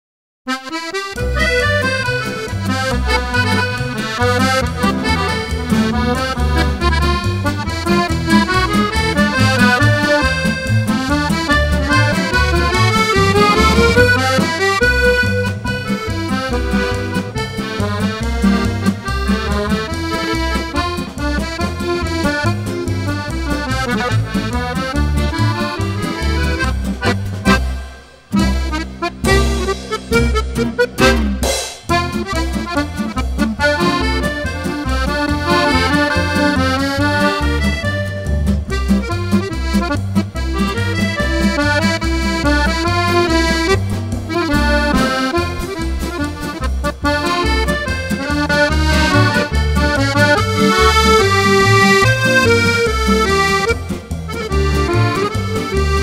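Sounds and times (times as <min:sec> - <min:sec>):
accordion music: 0:00.5 - 0:56.0
steady bass beat: 0:01.2 - 0:56.0.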